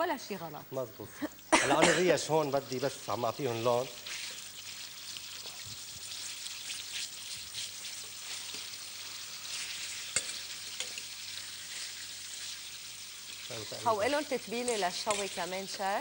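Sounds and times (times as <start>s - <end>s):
meat sizzling in a frying pan: 2.0s - 16.0s.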